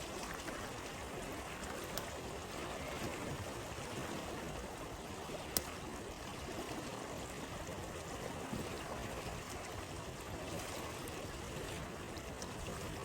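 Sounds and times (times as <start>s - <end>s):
stream flowing: 0.0s - 13.0s.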